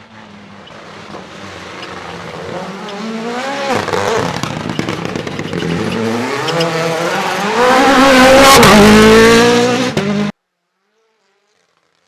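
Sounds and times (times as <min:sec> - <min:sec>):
rally car accelerating: 0:00.0 - 0:10.4.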